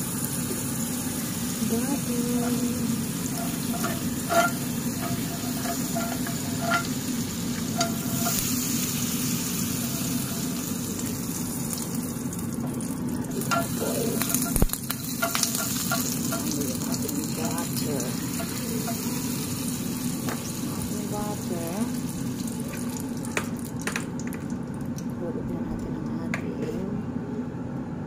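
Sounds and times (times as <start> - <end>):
butter sizzling in frying pan: 0.0 - 25.1.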